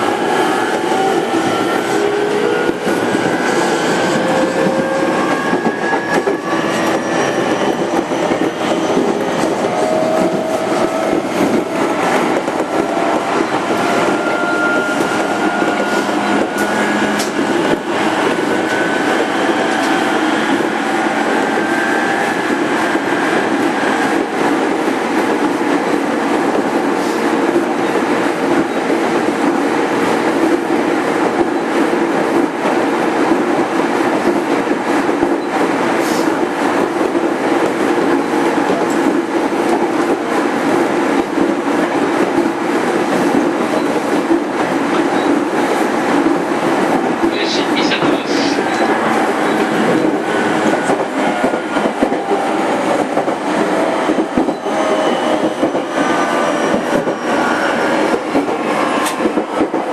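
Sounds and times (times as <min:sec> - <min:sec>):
train rumble and rattle: 0:00.0 - 0:59.9.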